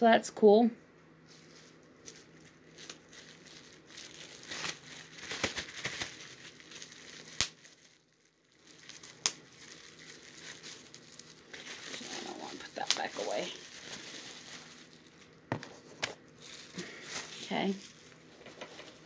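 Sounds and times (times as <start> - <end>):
bubble wrap crinkling: 1.2 - 18.3.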